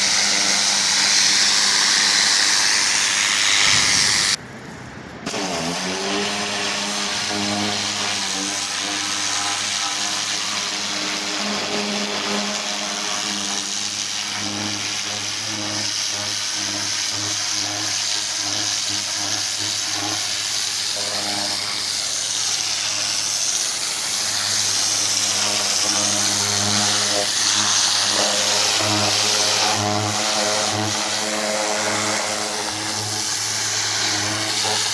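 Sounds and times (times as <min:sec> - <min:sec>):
high-pressure water spray hiss: 0:00.0 - 0:04.4, 0:05.3 - 0:34.9
pressure washer pump hum: 0:00.0 - 0:34.9.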